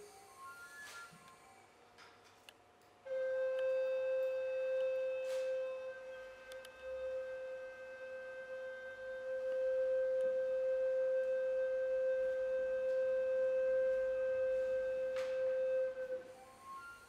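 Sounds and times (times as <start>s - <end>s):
steady pure tone: 3.1s - 17.0s.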